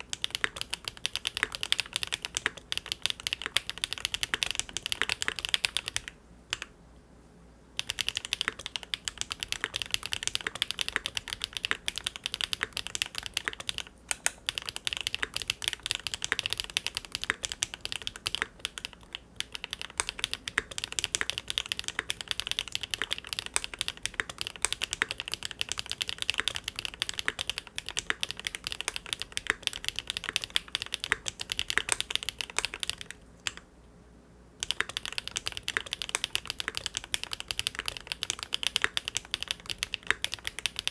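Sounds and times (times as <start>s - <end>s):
mechanical keyboard typing: 0.0s - 6.7s, 7.8s - 33.6s, 34.6s - 40.9s.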